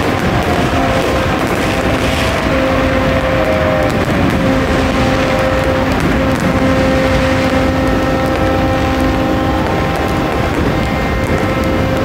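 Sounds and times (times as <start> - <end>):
engine rumbling: 0.0 - 12.0
faint fireworks crackling: 0.0 - 12.0.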